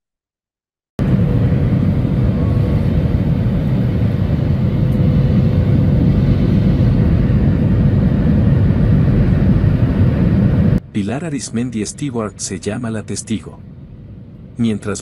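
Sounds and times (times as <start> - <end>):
jet cabin rumble: 1.0 - 15.0.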